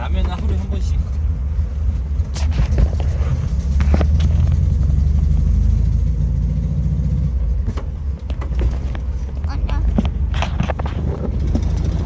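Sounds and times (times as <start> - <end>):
van engine running: 0.0 - 12.0.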